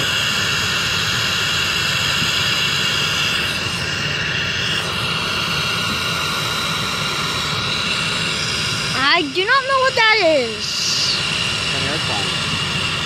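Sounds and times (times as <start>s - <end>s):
jet engines hissing and whining: 0.0s - 13.0s.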